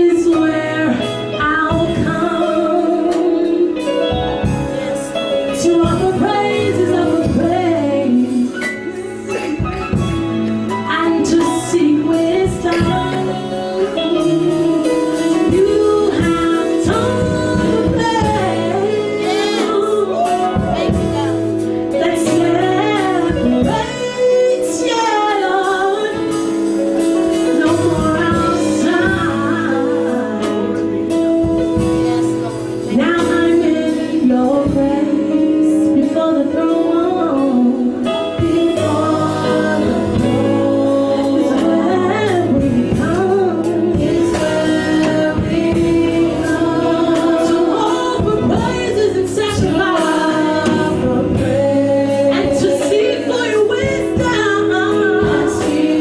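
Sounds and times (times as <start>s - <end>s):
band chords and drum hits: 0.0s - 56.0s
woman singing gospel: 0.0s - 56.0s.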